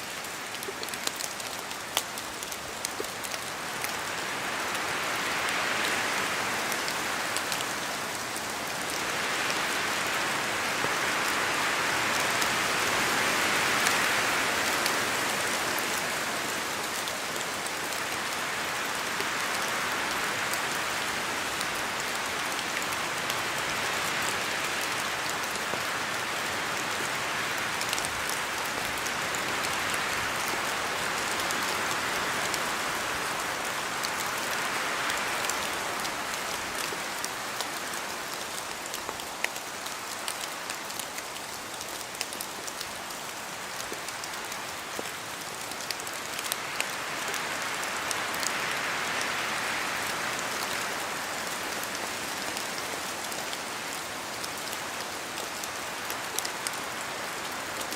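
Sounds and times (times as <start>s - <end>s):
drops ticking from trees: 0.0s - 12.8s, 13.8s - 57.9s
steady rain: 0.0s - 57.9s
wind: 0.0s - 57.9s.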